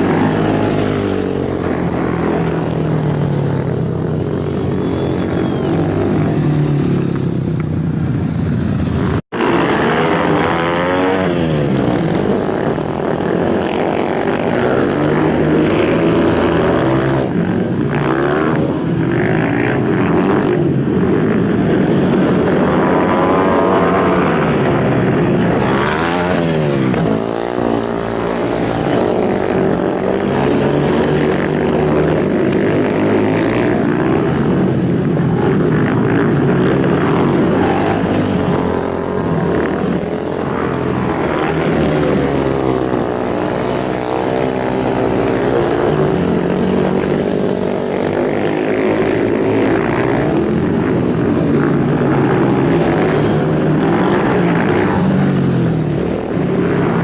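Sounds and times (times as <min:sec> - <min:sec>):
racing motorcycles passing by: 0:00.0 - 0:57.0.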